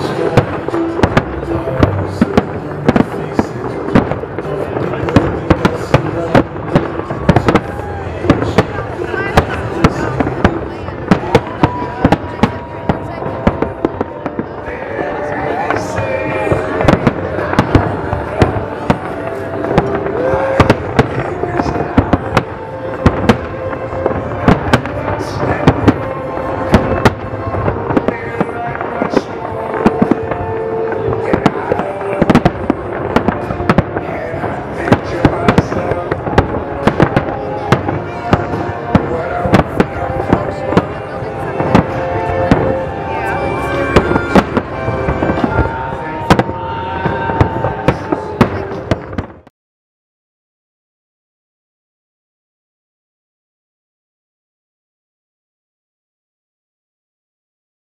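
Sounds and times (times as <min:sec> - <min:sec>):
fireworks rumble and crackle: 0:00.0 - 0:49.5.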